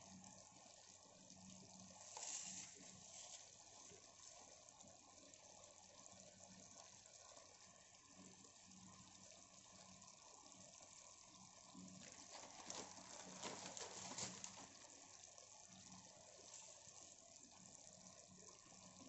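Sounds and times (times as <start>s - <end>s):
pot of food hissing and crackling: 0.0s - 19.0s.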